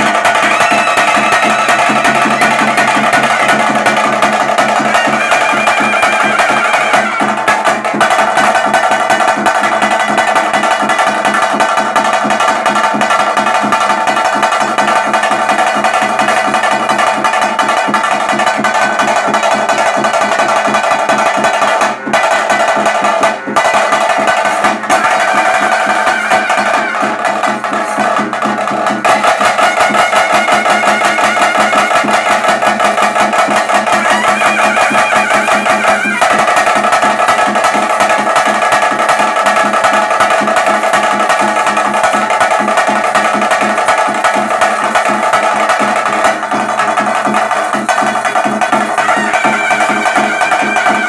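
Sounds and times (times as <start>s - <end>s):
fast steady drumming: 0.0s - 51.0s.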